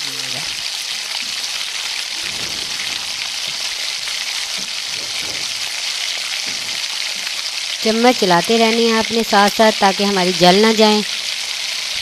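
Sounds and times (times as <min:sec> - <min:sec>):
batter frying in hot oil: 0:00.0 - 0:12.0.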